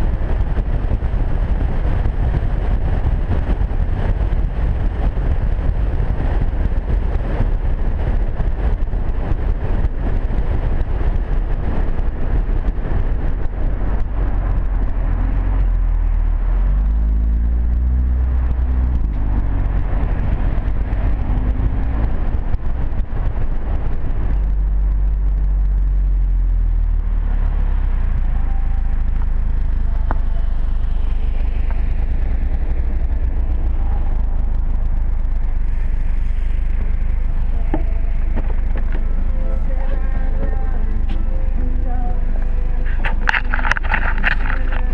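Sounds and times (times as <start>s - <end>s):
car engine and exhaust: 0.0s - 44.9s
tyre rumble: 0.0s - 44.9s
wind buffeting microphone: 0.0s - 44.9s.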